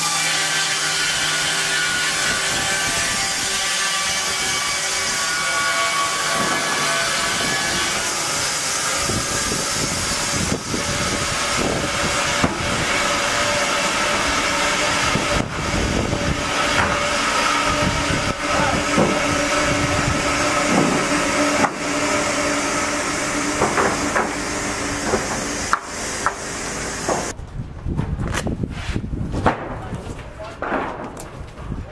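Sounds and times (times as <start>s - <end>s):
edging saw ripping boards: 0.0s - 27.4s.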